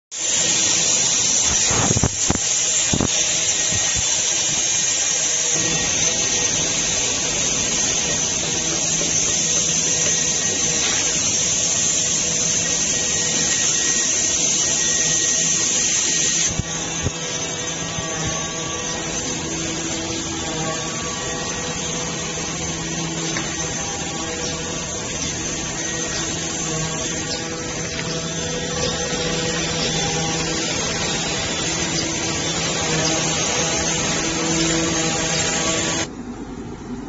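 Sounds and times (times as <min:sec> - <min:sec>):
high grinding hiss: 0:00.1 - 0:36.2
motor whine: 0:00.1 - 0:37.0.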